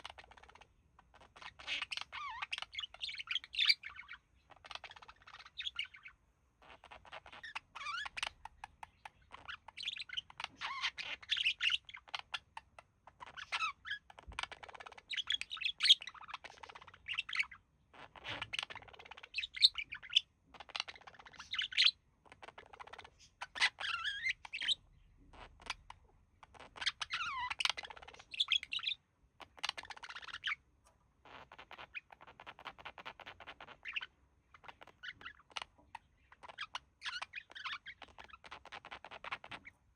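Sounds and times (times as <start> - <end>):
budgerigars warbling and chattering: 0.0 - 30.6, 31.2 - 39.9.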